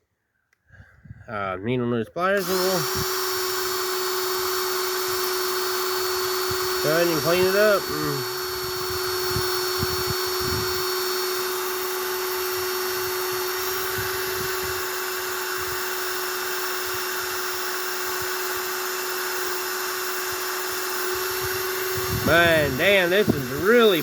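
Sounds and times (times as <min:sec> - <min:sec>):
small electric motor whining: 0:02.4 - 0:24.0.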